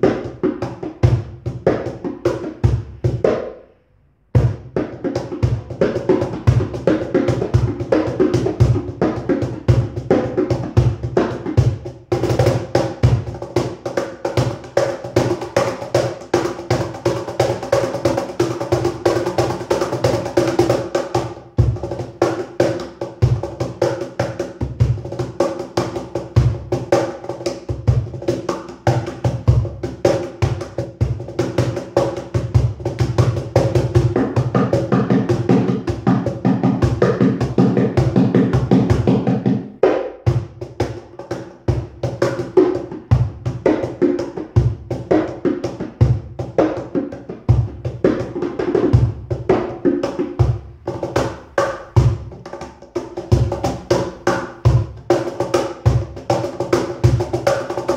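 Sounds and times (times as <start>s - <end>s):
cajon played with hands: 0.0s - 3.7s, 4.4s - 57.9s.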